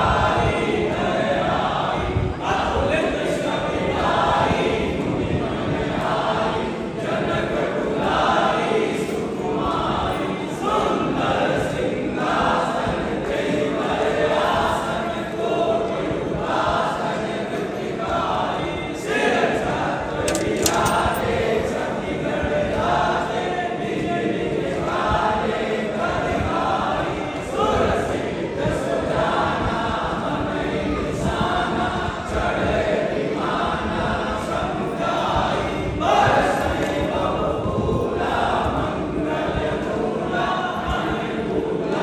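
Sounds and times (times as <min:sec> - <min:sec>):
group singing a hymn: 0:00.0 - 0:42.0.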